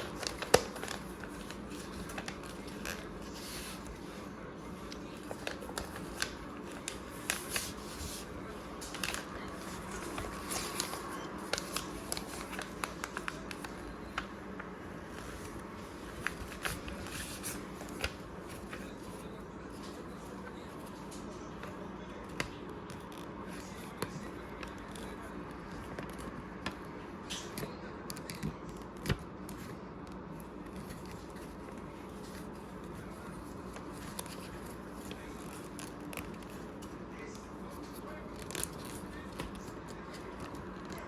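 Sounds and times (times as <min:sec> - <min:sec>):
paper rustling and creasing: 0:00.0 - 0:41.0
steady background hum: 0:00.0 - 0:41.0.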